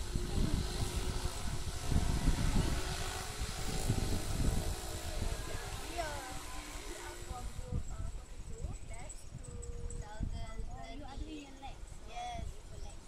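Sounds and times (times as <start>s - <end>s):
faint voices: 0.0s - 13.0s
wind buffeting microphone: 0.0s - 13.0s.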